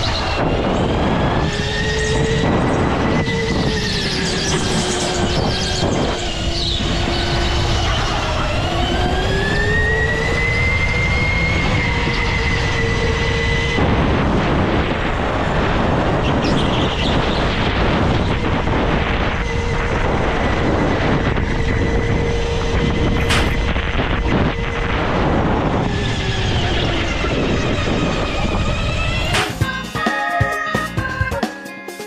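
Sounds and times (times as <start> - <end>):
go-kart engine whine: 0.0 - 30.0.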